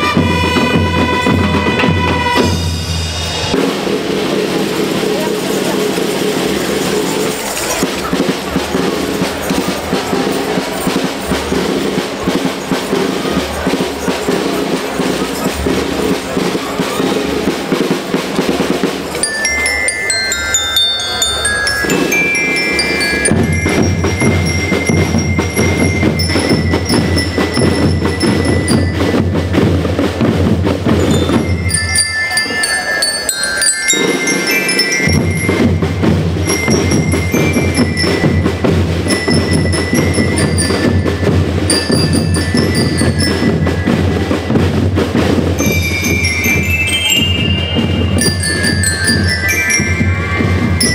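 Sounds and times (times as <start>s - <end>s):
snare and bass drums: 0.0s - 19.8s, 21.7s - 32.1s, 34.0s - 50.9s
bell lyres melody: 0.2s - 50.9s.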